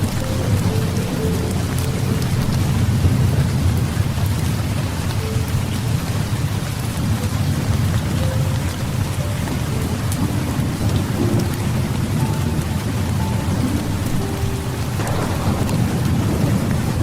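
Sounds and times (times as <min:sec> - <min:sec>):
low rumble of thunder: 0:00.0 - 0:08.7, 0:09.9 - 0:17.0
heavy rain falling: 0:00.0 - 0:17.0.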